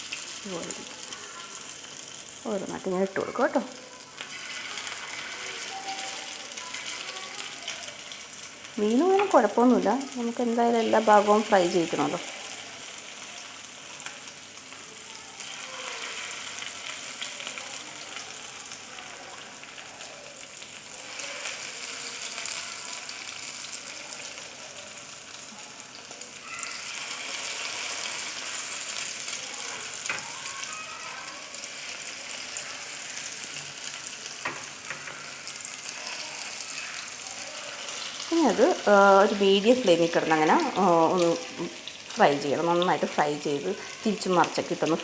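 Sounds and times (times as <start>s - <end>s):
food sizzling in hot oil: 0.0s - 45.0s.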